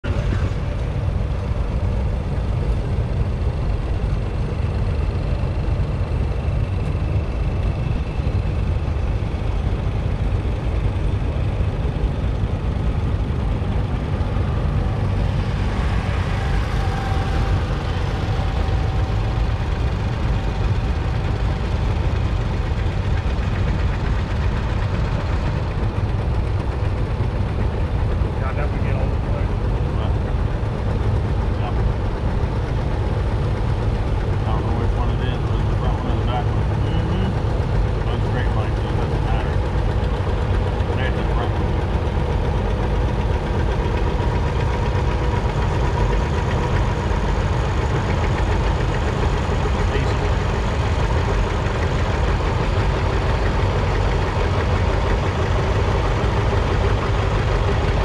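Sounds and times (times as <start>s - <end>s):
tractor engines running: 0.0s - 58.0s.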